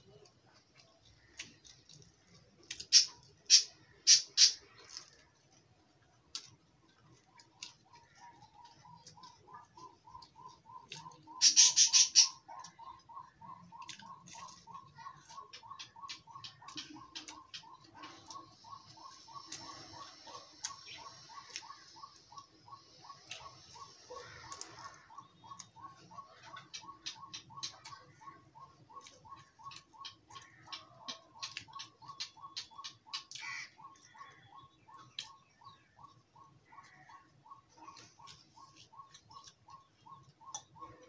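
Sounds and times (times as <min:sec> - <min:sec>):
crunchy chewing: 0:00.0 - 0:41.0.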